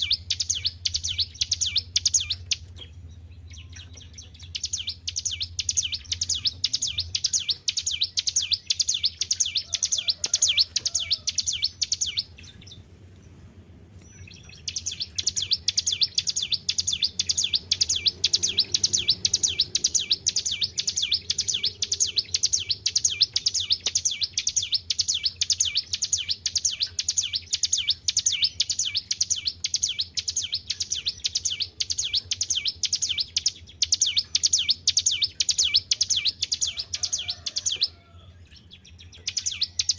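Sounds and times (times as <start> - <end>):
bird singing high sharp notes: 0.0 - 12.8, 14.0 - 37.9
faint low hum: 0.0 - 39.9.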